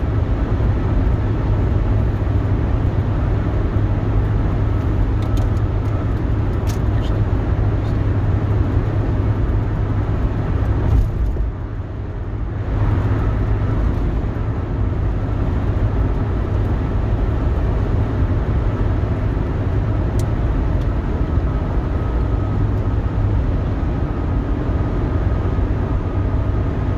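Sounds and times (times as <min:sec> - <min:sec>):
car cabin road and engine noise: 0:00.0 - 0:26.9.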